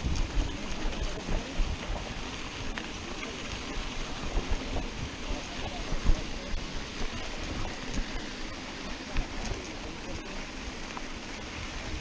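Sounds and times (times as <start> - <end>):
wind rushing on microphone: 0.0 - 10.2, 11.3 - 12.0
bike tyres rolling on dirt: 0.0 - 12.0.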